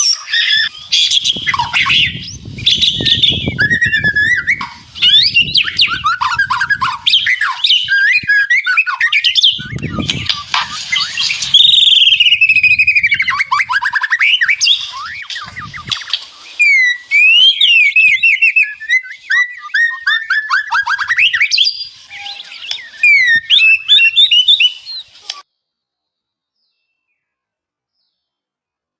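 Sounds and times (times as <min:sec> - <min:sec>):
bird singing whistles and trills: 0:00.0 - 0:25.4.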